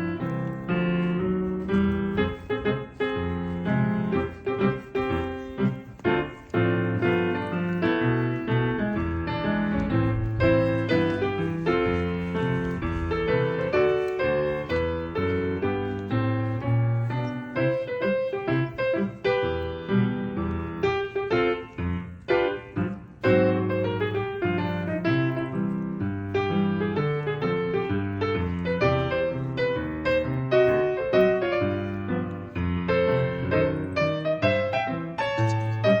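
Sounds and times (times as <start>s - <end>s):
lively piano tune: 0.0s - 36.0s.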